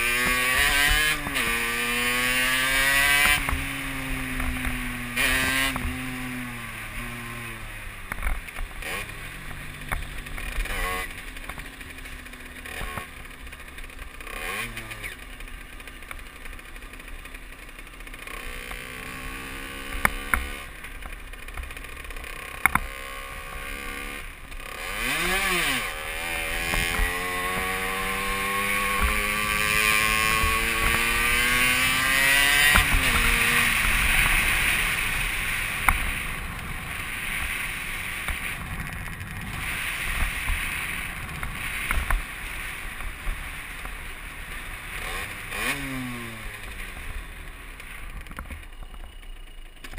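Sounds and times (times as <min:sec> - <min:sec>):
moped engine revving: 0:00.0 - 0:49.9.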